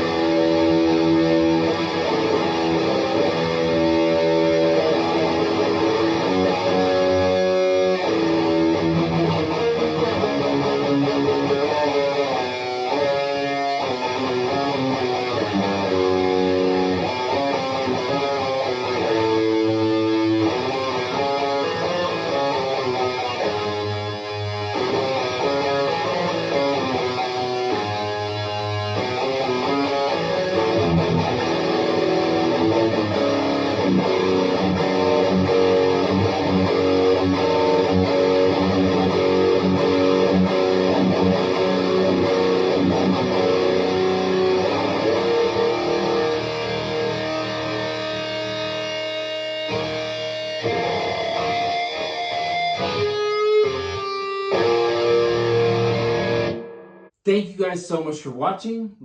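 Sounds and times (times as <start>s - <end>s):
overdriven electric guitar riffing: 0.0s - 57.2s.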